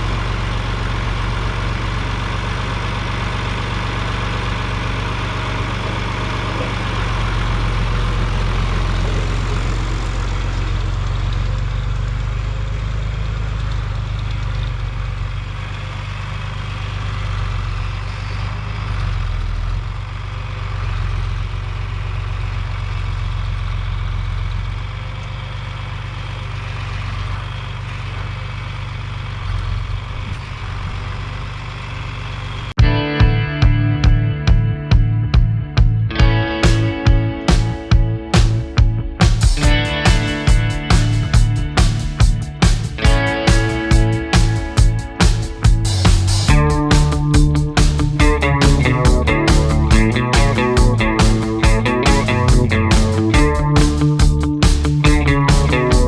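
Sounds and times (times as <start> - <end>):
heavy machinery engine droning: 0.0 - 33.0, 33.8 - 56.0.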